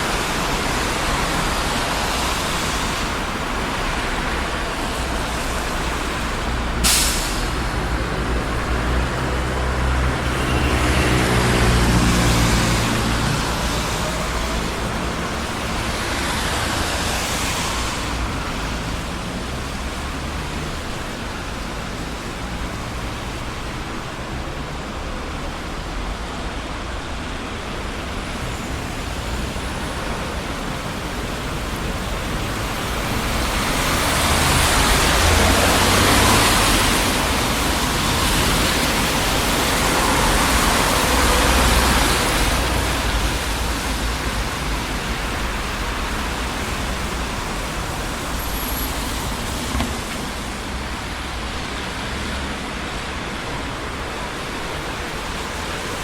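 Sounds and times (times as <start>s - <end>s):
traffic rumble of engines and tyres: 0.0s - 56.0s.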